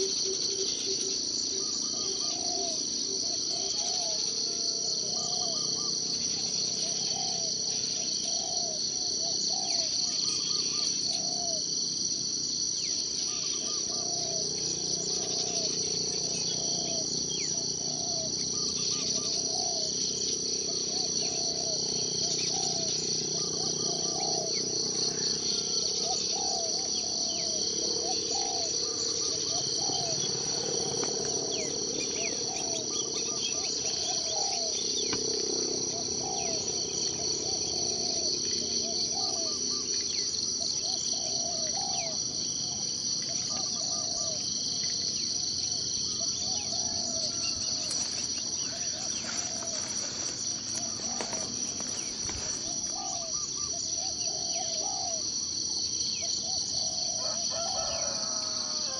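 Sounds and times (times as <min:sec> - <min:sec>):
insects trilling: 0:00.0 - 0:58.9.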